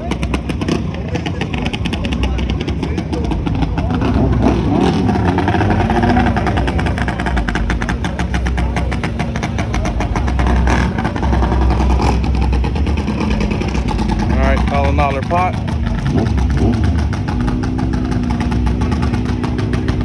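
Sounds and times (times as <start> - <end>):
mini bike engines revving: 0.0 - 20.0.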